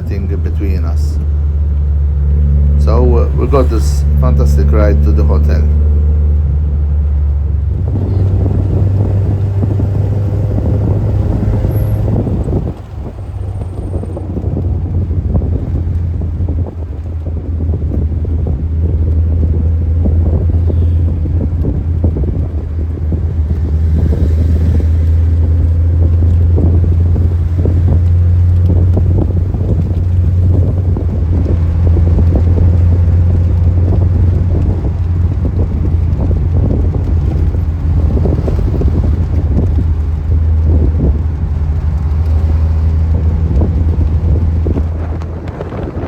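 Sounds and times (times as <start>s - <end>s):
car engine and road drone: 0.0s - 46.0s
wind noise on microphone: 0.0s - 46.0s.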